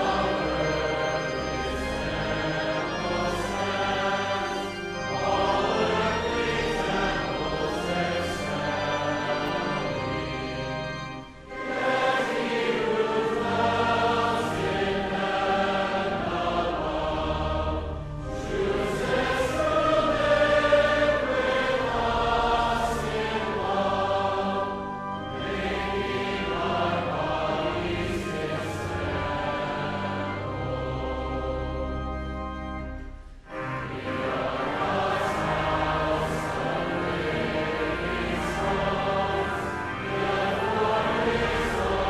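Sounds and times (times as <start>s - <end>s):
instrumental accompaniment: 0.0s - 42.0s
voices singing a hymn: 0.0s - 42.0s.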